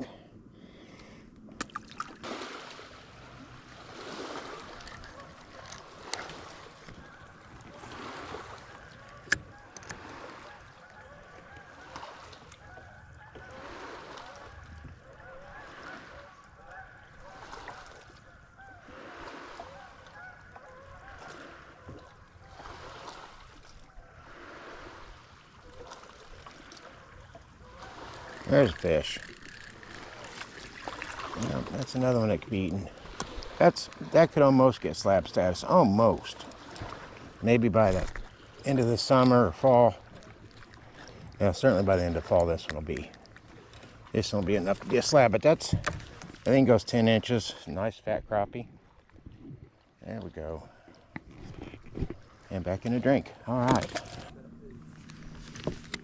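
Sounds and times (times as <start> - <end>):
water lapping against a boat: 0.0 - 56.0.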